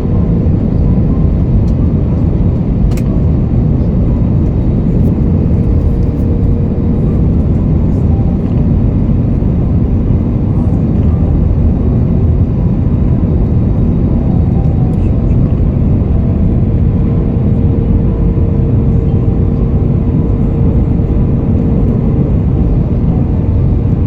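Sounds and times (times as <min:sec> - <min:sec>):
aircraft engine noise: 0:00.0 - 0:24.0
airflow rushing in aircraft cabin: 0:00.0 - 0:24.0.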